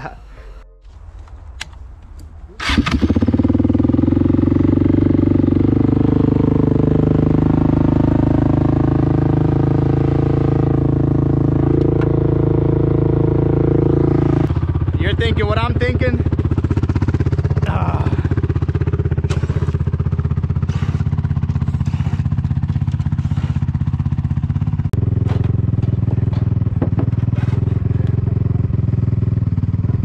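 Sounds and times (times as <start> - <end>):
quad engine running: 2.6 - 30.0.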